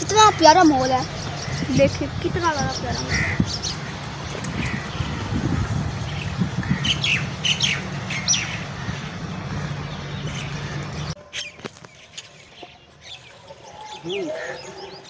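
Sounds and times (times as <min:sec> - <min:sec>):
birds squawking and chirping: 0:00.0 - 0:15.0
low rumble of wind: 0:00.0 - 0:15.0.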